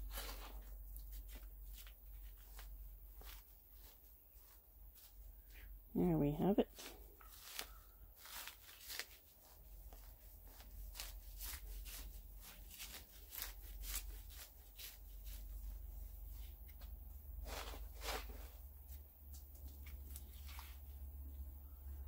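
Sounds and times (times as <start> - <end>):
hands rustling in soil: 0.0 - 21.5.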